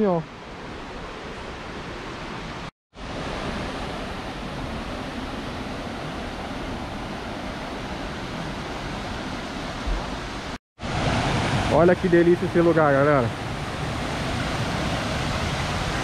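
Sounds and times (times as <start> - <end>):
stream and cascade rushing: 0.0 - 16.0.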